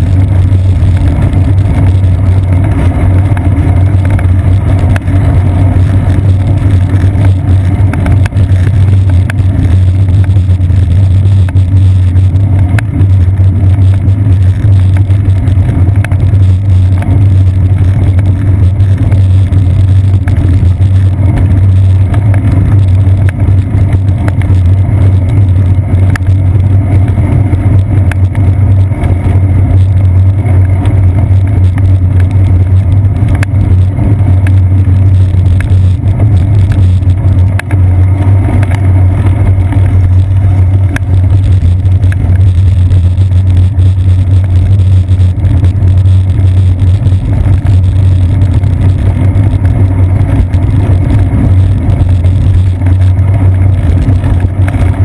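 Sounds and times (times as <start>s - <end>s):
wind and road rumble: 0.0s - 55.0s.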